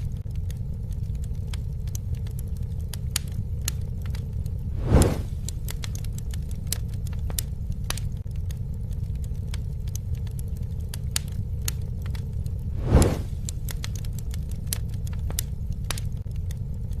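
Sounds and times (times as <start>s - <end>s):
campfire flames rumbling: 0.0s - 17.0s
wood crackling and popping: 0.0s - 17.0s.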